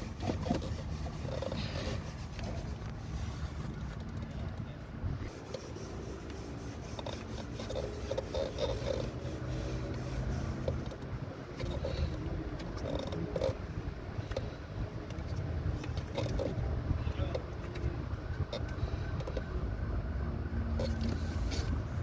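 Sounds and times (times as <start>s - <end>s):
scraping and rubbing on engine parts: 0.0s - 19.5s, 20.7s - 22.0s.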